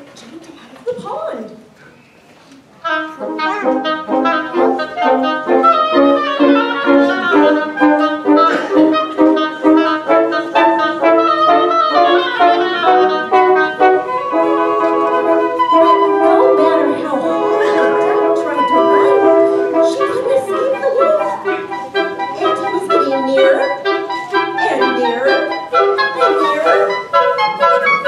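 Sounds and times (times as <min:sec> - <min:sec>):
woodwind quintet playing: 0:02.8 - 0:28.0.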